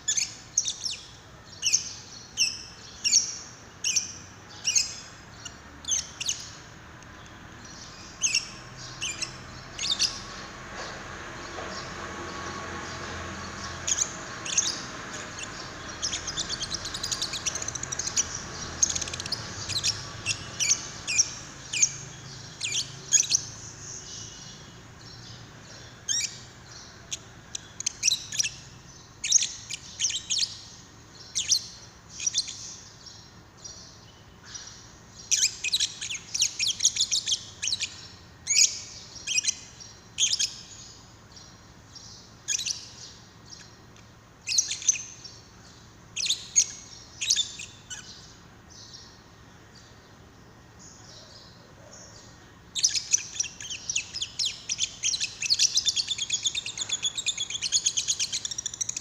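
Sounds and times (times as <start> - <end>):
lovebird chirping: 0.0 - 50.1, 50.7 - 59.0.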